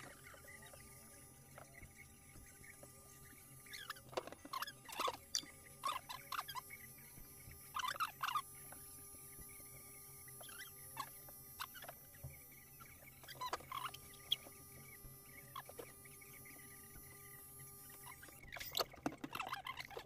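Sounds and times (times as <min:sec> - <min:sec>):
electric hair clippers humming: 0:00.0 - 0:20.0.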